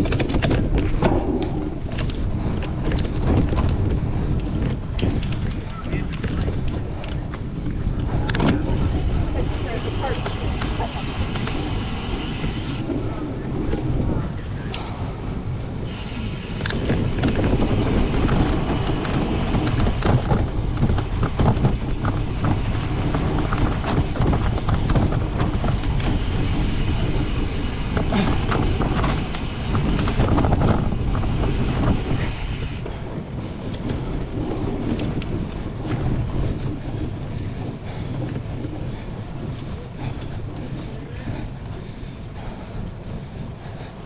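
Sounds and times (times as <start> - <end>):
bike rattling over rough ground: 0.0 - 44.0
low rumble: 0.0 - 44.0
wind buffeting microphone: 0.0 - 44.0.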